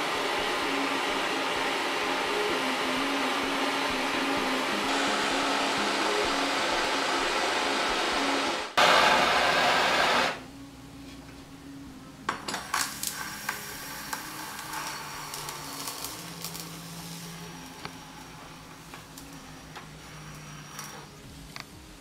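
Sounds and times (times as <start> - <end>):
torch flame hissing: 0.0 - 10.4, 12.6 - 22.0.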